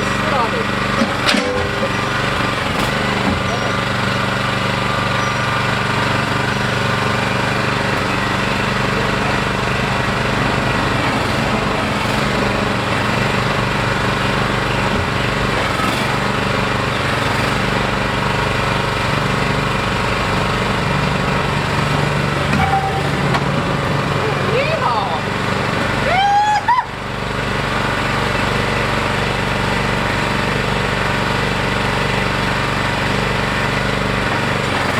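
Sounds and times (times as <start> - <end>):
small gas engine running: 0.0 - 34.9.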